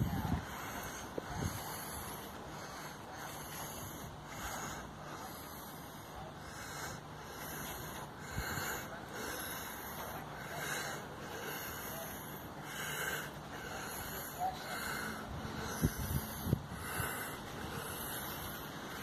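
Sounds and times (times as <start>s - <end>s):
faint outdoor background noise: 0.0s - 19.0s.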